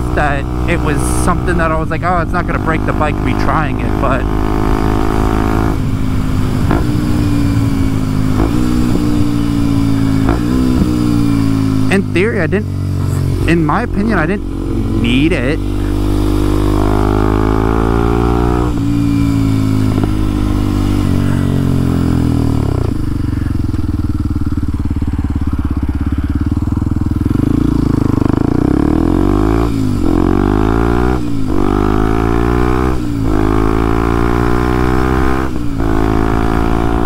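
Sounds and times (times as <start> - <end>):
motorcycle engine revving through gears: 0.0 - 37.0.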